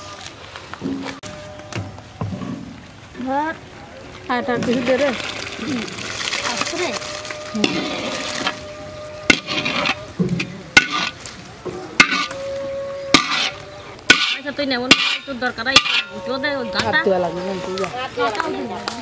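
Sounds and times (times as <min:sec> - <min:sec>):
voices: 0:03.1 - 0:19.0.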